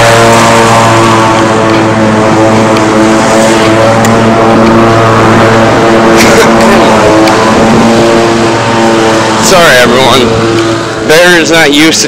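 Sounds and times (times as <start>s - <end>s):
loud engine running: 0.0s - 12.0s.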